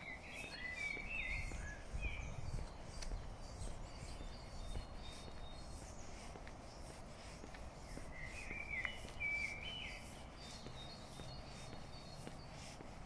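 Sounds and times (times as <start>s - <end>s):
songbird whistling: 0.0s - 6.1s, 7.9s - 12.6s
footsteps on paved road: 0.0s - 13.0s.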